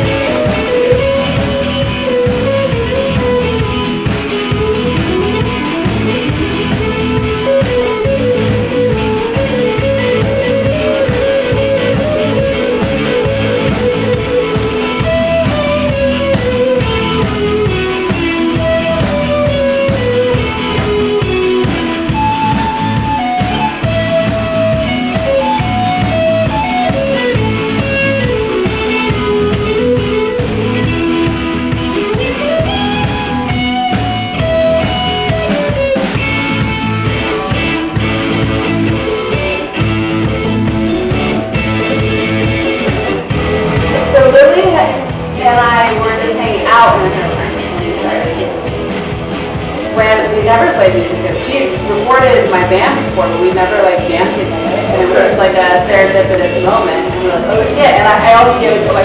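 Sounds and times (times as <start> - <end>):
drum kit beat: 0.0 - 59.0
electric guitar melody: 0.0 - 59.0.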